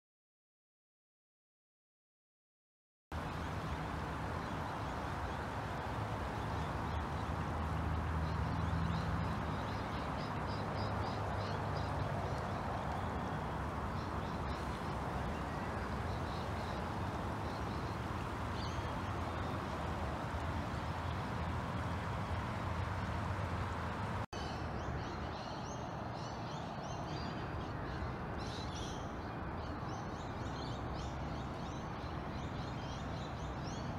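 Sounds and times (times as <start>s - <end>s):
river water rushing: 3.2s - 33.9s.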